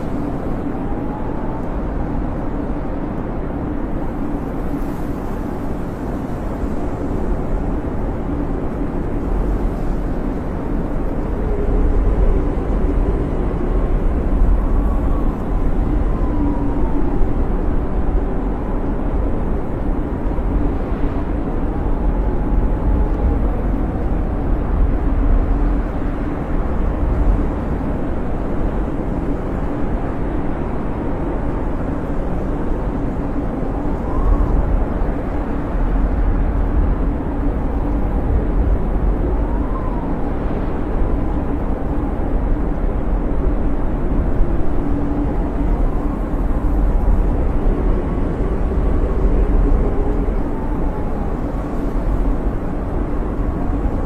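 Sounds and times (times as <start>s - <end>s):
faint wavering wind whistles: 0.0s - 54.0s
wind howling: 0.0s - 54.0s.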